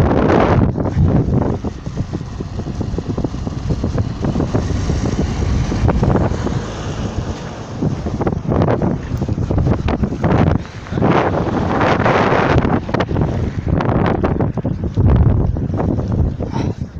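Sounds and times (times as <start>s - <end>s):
blizzard wind buffeting microphone: 0.0s - 16.9s.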